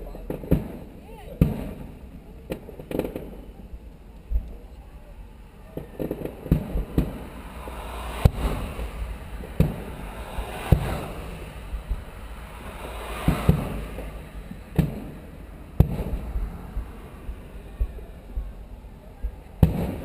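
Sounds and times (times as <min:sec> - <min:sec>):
distant firework booms: 0:00.2 - 0:03.6, 0:05.7 - 0:20.0.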